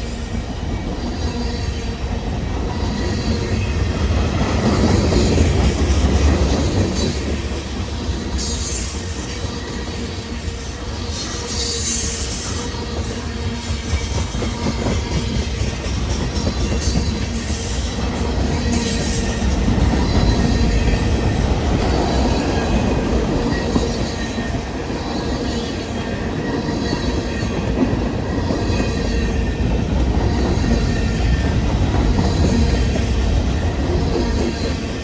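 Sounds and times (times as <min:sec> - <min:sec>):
clickety-clack over rail joints: 0:00.0 - 0:35.0
train wheels rumbling on rails: 0:00.0 - 0:35.0.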